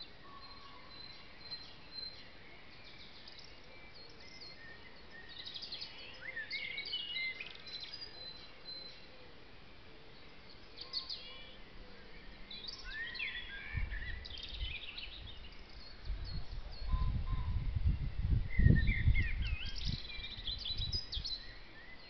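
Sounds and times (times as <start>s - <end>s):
songbirds singing and chirping: 0.0s - 22.0s.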